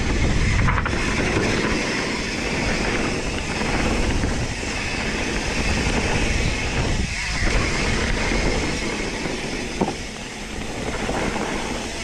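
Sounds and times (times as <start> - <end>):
bike tyres rolling on dirt: 0.0 - 12.0.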